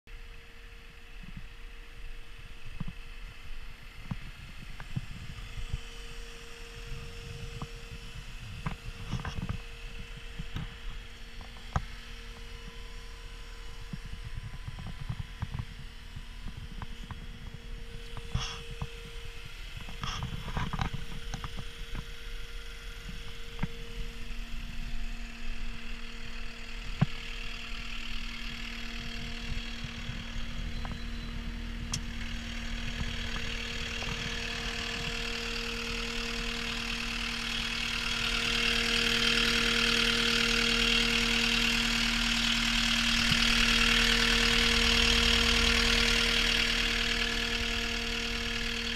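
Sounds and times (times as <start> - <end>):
diesel engine idling: 0.1 - 48.9.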